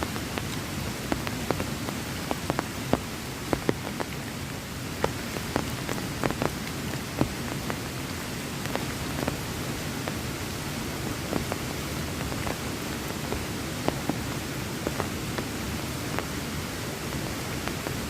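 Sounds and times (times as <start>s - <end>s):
heavy rain falling: 0.0s - 18.0s
raindrops ticking on surface: 0.0s - 18.0s.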